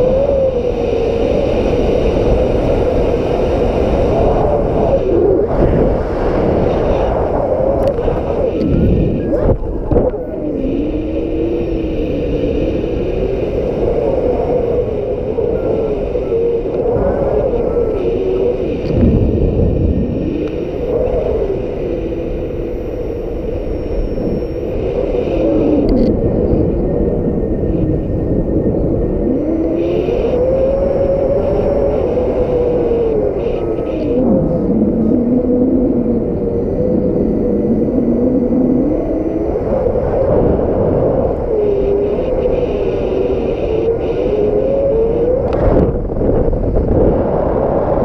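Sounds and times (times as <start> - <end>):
wavering wind howl: 0.0 - 48.0
wind buffeting microphone: 0.0 - 48.0.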